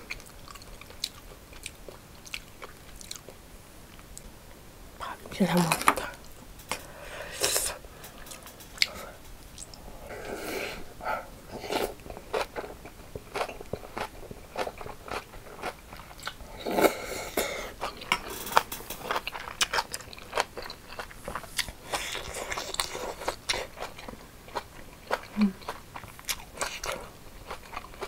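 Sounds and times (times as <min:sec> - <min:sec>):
crunching and chewing food: 0:00.0 - 0:04.3, 0:07.9 - 0:10.2, 0:11.5 - 0:28.0.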